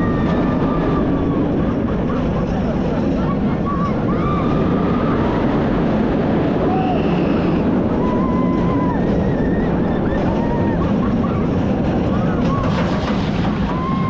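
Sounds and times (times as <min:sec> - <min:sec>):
roller coaster rumbling on track: 0:00.0 - 0:14.0
wind rushing over microphone: 0:00.0 - 0:14.0.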